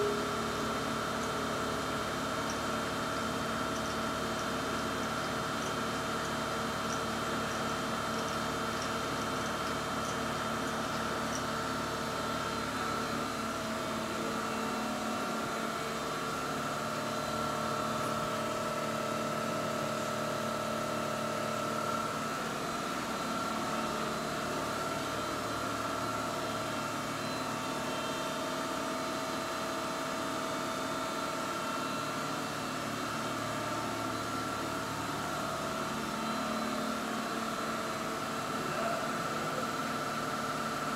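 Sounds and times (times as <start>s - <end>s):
milling machine humming and whining: 0.0s - 40.9s.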